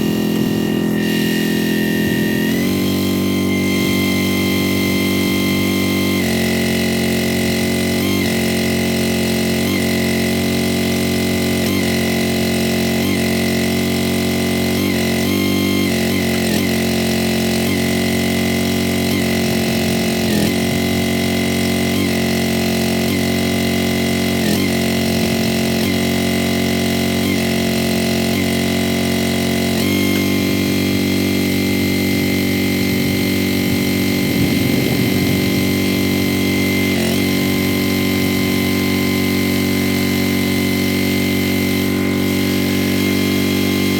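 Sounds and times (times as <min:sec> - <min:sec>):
firewood splitter engine running: 0:00.0 - 0:43.9.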